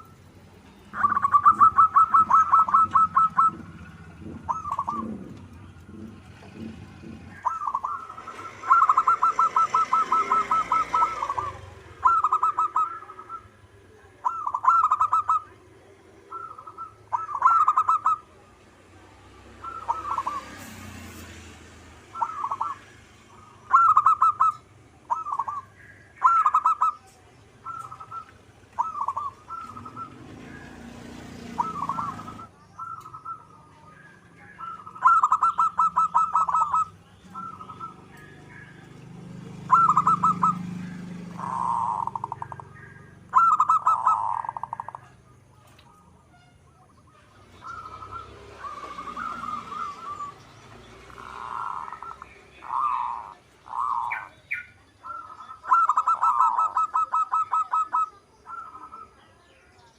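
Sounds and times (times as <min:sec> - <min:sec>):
doves cooing: 0:00.0 - 0:46.2, 0:46.8 - 0:59.8.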